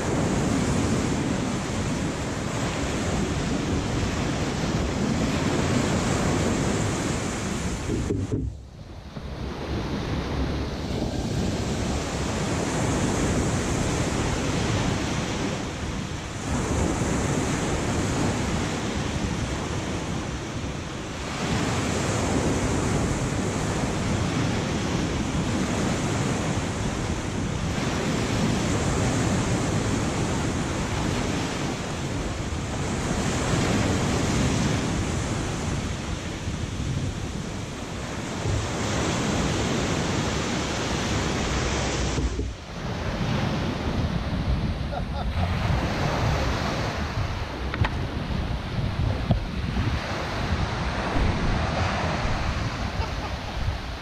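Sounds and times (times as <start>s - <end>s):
surf breaking on beach: 0.0s - 54.0s
wind buffeting microphone: 0.0s - 54.0s.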